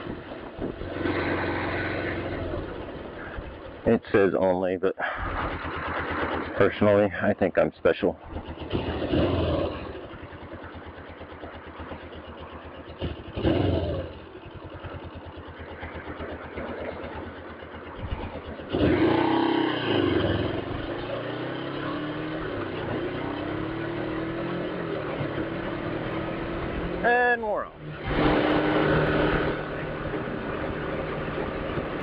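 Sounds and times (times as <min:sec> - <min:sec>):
motorcycle engine idling: 0:00.0 - 0:04.3, 0:05.0 - 0:27.0, 0:29.6 - 0:32.0
motorcycle accelerating: 0:00.0 - 0:32.0.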